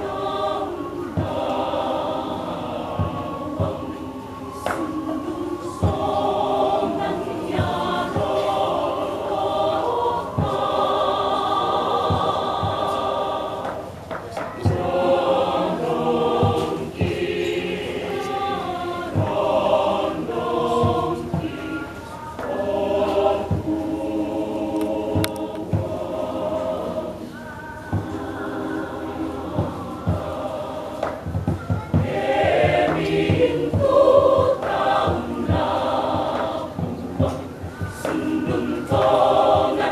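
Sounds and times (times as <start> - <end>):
women's choir singing: 0.0 - 39.9.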